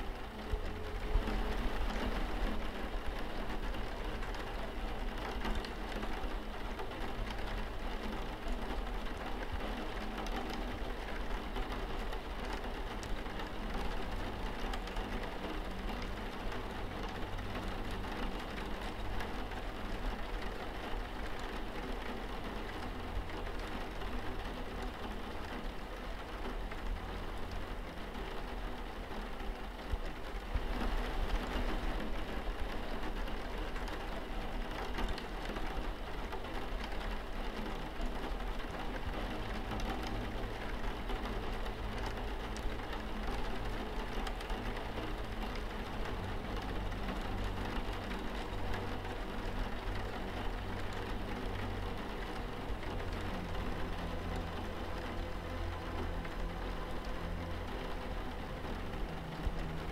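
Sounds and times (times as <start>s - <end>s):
rain pattering on window: 0.0s - 59.9s.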